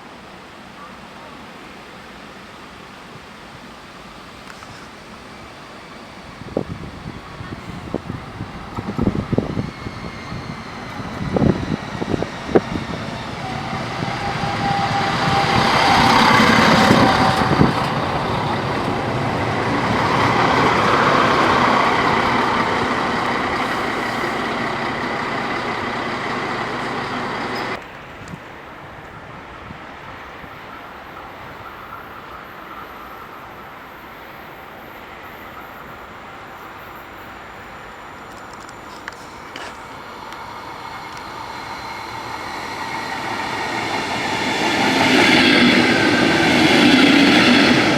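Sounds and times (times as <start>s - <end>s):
train approaching: 0.0s - 47.9s
train passing: 1.6s - 47.9s.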